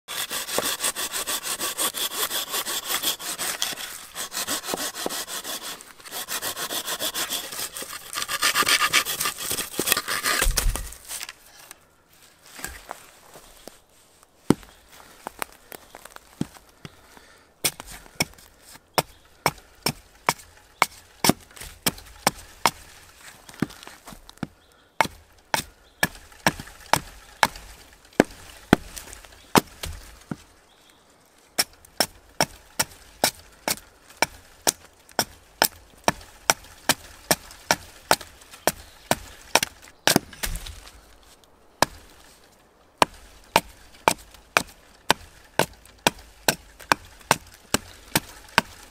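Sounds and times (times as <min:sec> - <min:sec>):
hatchet chopping wood: 0:00.1 - 0:11.0, 0:14.5 - 0:14.7, 0:17.6 - 0:30.4, 0:31.6 - 0:40.8, 0:41.8 - 0:42.1, 0:43.0 - 0:48.9.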